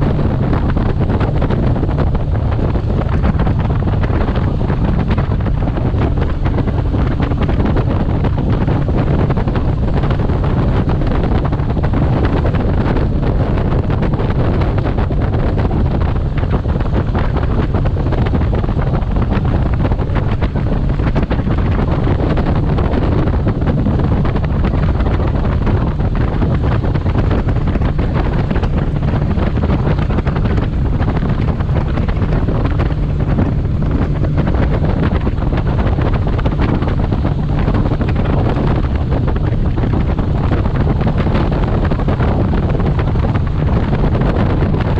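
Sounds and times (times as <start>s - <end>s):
boat outboard motor running fast: 0.0s - 44.9s
hull on water: 0.0s - 44.9s
wind noise on microphone: 0.0s - 44.9s.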